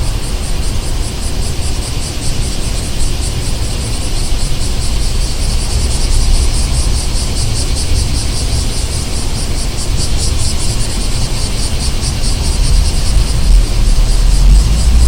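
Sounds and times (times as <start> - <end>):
insects chirring: 0.0 - 15.0
traffic rumble: 0.0 - 15.0.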